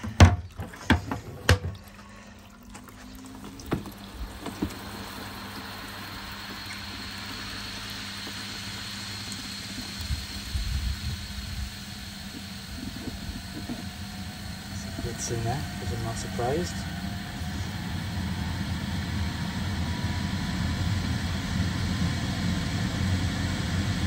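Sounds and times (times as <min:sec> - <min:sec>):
water gushing into plastic bucket: 0:00.0 - 0:23.2
spin dryer motor humming: 0:02.6 - 0:24.0
high whine: 0:03.0 - 0:24.0.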